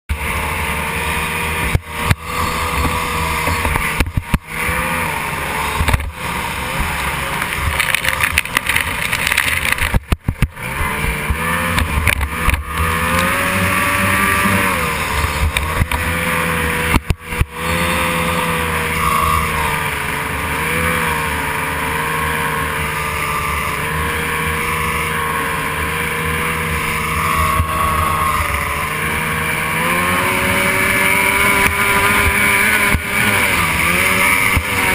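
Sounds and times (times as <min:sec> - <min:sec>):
boat engine running hard: 0:00.1 - 0:34.9.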